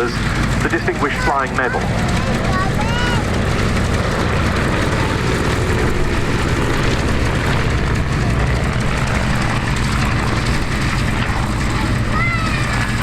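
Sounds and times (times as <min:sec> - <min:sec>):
radial aircraft engines droning: 0:00.0 - 0:13.0.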